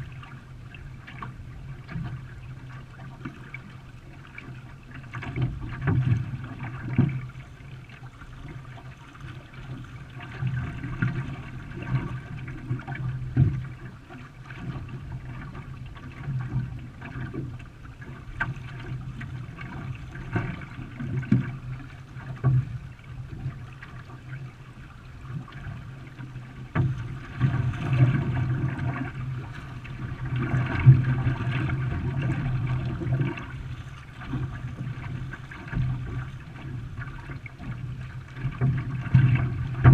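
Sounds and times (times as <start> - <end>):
water splashing around canoe: 0.0 - 39.9.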